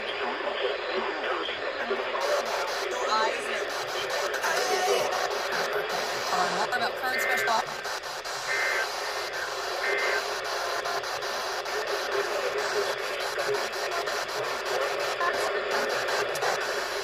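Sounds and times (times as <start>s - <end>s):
radio static hiss with clicks: 0.0s - 17.0s.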